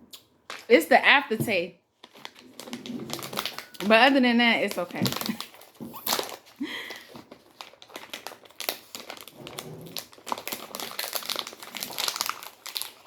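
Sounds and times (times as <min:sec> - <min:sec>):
plastic packaging crinkling: 0:01.9 - 0:13.0.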